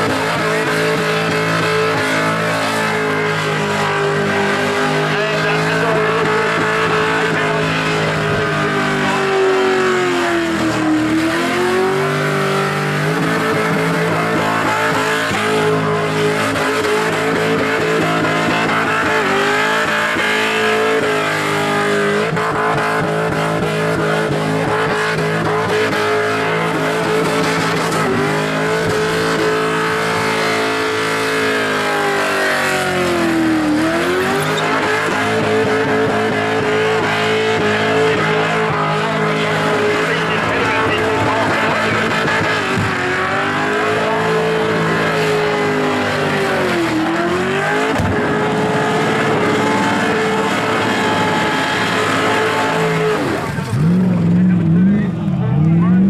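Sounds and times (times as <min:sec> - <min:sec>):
car engine revving high: 0:00.0 - 0:56.0.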